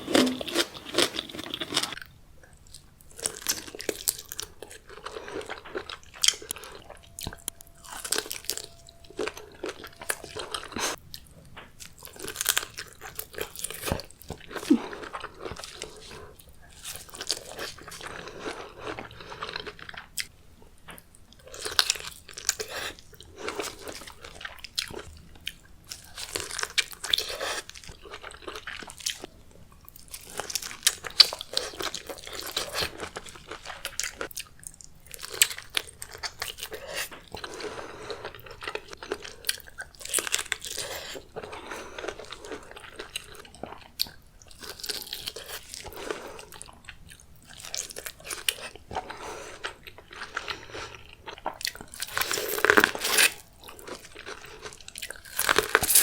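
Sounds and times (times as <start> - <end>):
crunching and chewing seafood: 0.0 - 56.0.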